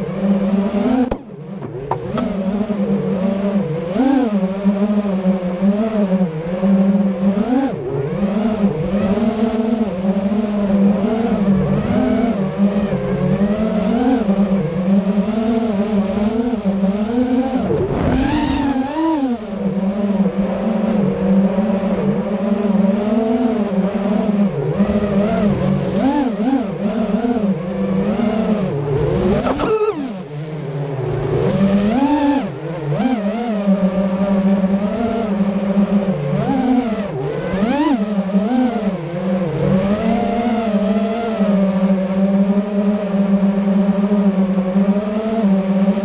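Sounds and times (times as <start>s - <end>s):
quadcopter motors whining: 0.0s - 46.0s.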